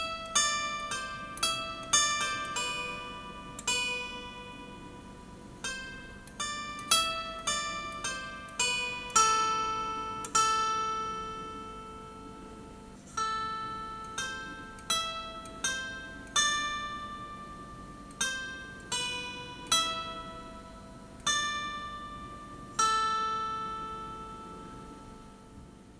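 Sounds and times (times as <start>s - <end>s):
plucked string instrument tune: 0.0s - 25.9s.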